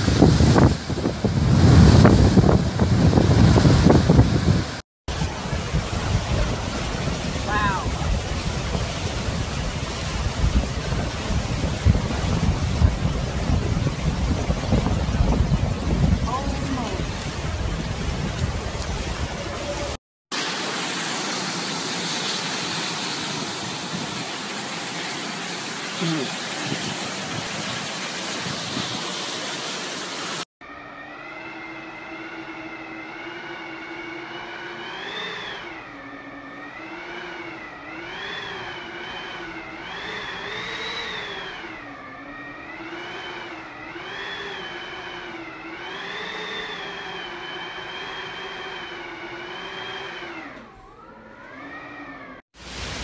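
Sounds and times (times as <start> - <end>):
rushing wind and rain: 0.0 - 30.4, 36.5 - 50.6, 52.6 - 53.0
wind whistling through door gaps: 0.0 - 52.6.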